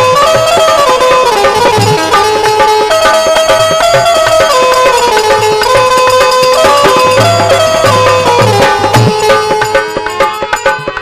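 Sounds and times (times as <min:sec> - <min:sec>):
fast hand-drum beat: 0:00.0 - 0:11.0
harmonium sustained notes: 0:00.0 - 0:11.0.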